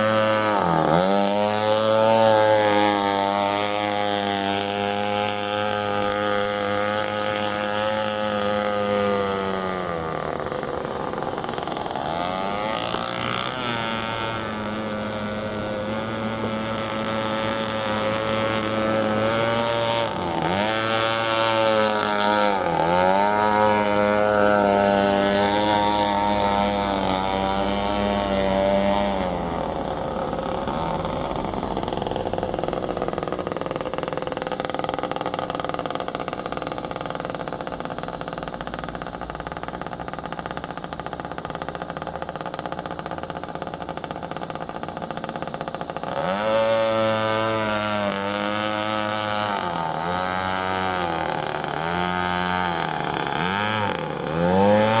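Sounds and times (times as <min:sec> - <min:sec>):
two-stroke boat engine at high revs: 0:00.0 - 0:55.0.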